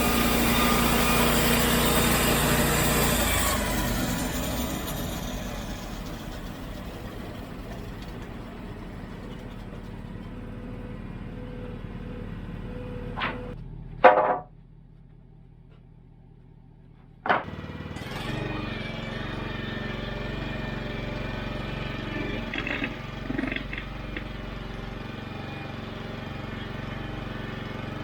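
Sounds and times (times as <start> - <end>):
sawmill engine running: 0.0 - 14.1, 17.3 - 28.0.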